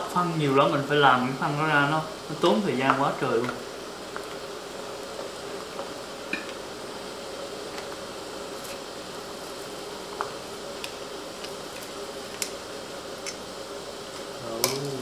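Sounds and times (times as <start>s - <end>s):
steady low hiss and hum: 0.0s - 15.0s.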